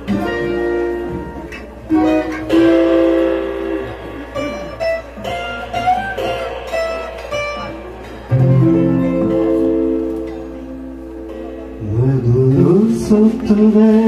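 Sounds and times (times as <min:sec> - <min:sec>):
guitar chords ringing: 0:00.0 - 0:14.0.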